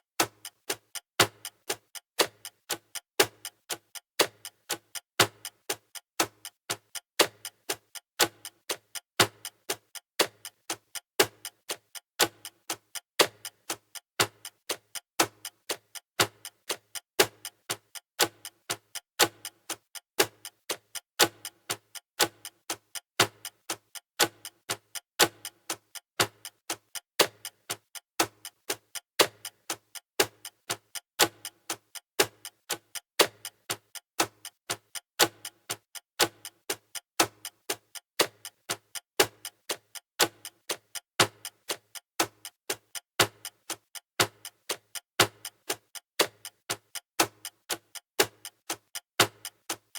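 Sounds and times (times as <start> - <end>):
clock ticking: 0.2 - 49.9.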